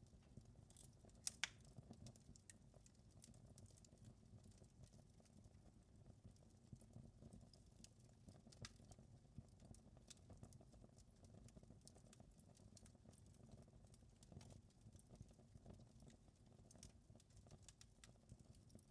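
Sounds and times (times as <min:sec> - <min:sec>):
faint wood fire crackling: 0:00.0 - 0:18.9
low rumble of fire: 0:00.0 - 0:18.9.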